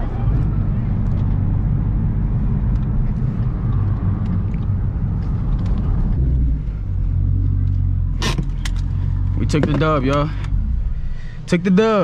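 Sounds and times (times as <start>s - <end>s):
car engine at full throttle: 0.0s - 12.0s
road and wind noise: 0.0s - 12.0s.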